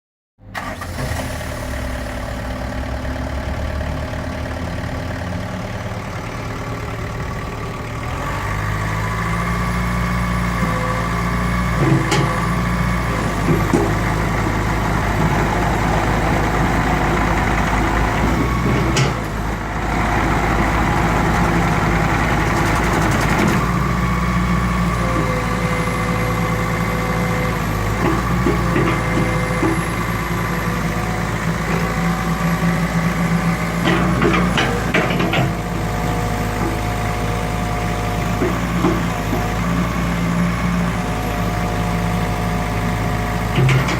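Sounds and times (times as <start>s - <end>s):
diesel engine idling: 1.6s - 43.9s.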